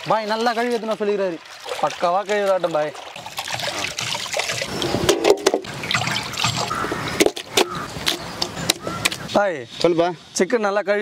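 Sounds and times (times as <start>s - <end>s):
water sloshing and splashing: 0.0s - 9.3s.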